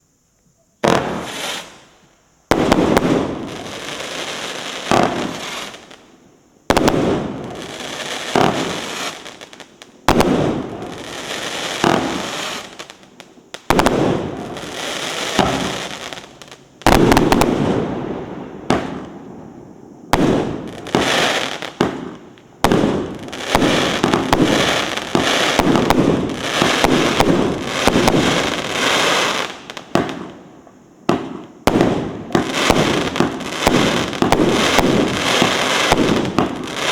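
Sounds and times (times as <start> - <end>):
fireworks launching: 0.8 - 1.9, 2.5 - 6.0, 6.7 - 30.4, 31.1 - 36.9.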